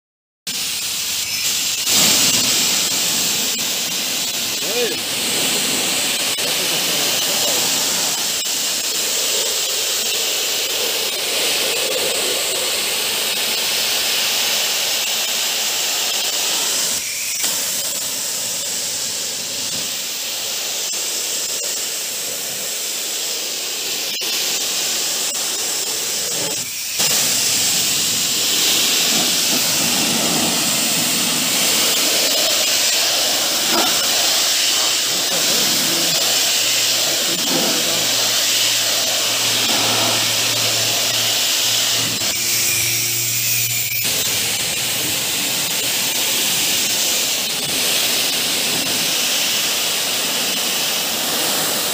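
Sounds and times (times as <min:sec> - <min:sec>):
pressure washer water jet hissing: 0:00.5 - 0:51.9
water spattering on concrete: 0:00.5 - 0:51.9.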